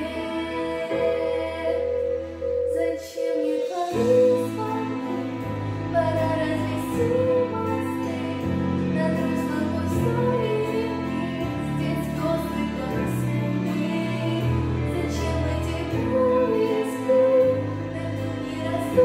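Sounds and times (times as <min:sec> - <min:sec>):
instrumental accompaniment: 0:00.0 - 0:19.0
woman singing with vibrato: 0:00.0 - 0:19.0.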